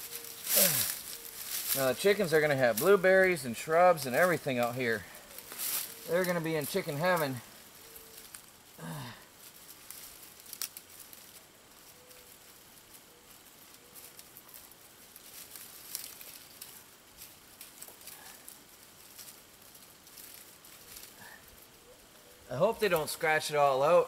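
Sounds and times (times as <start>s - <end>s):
chain-link fence rustling and clicking: 0.0s - 8.7s, 9.3s - 23.5s.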